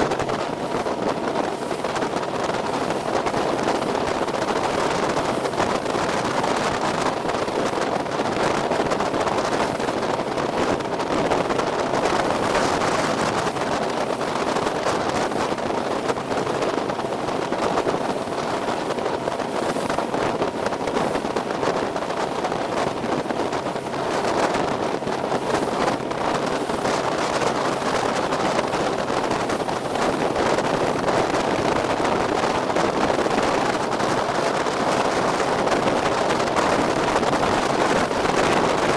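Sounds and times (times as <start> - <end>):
motorboat engine: 0.0 - 38.9
rushing water: 0.0 - 38.9
wind buffeting microphone: 0.0 - 38.9.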